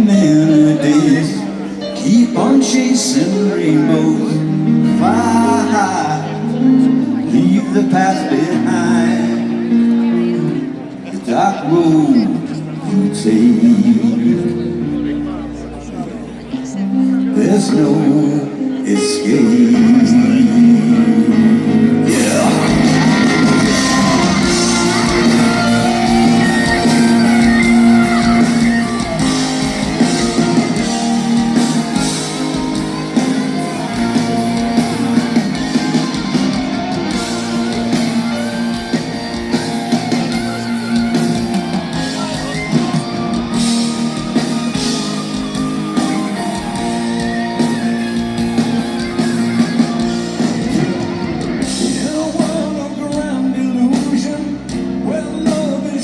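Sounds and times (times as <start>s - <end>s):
person singing: 0.0s - 15.2s, 17.1s - 56.0s
live rock band: 0.0s - 56.0s.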